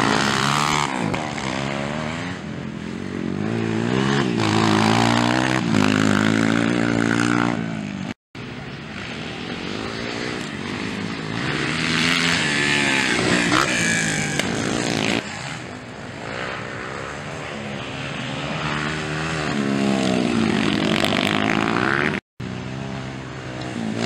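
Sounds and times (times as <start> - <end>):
dirt bike engine revving: 0.0 - 8.2, 9.0 - 24.0.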